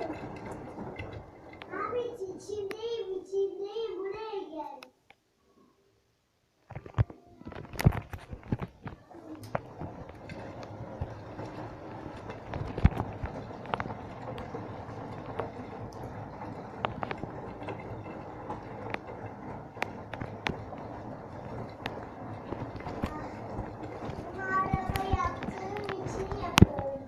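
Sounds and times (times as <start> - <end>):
knocks and clicks: 0.0 - 1.7, 6.6 - 27.0
washing machine running: 0.0 - 4.2, 6.7 - 27.0.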